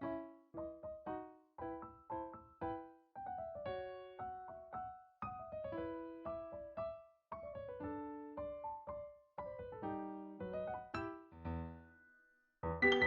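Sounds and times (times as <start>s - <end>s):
solo piano music: 0.0s - 13.0s.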